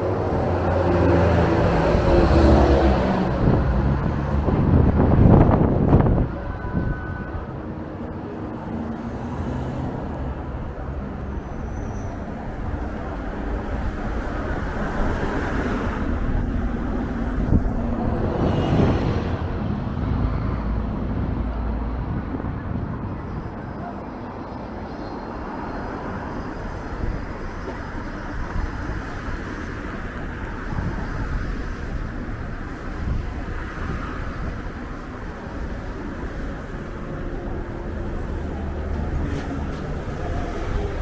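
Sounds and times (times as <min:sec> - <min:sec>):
wind buffeting microphone: 0:00.0 - 0:09.2, 0:09.8 - 0:41.0
road traffic: 0:00.0 - 0:41.0.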